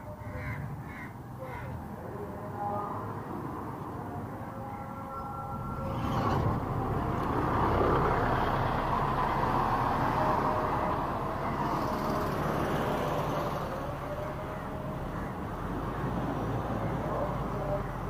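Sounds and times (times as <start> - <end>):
bus passing by: 0.0 - 18.0
road traffic: 0.0 - 18.0.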